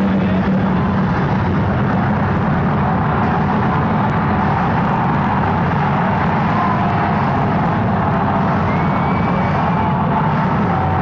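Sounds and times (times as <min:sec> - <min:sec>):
crowd roaring: 0:00.0 - 0:11.0.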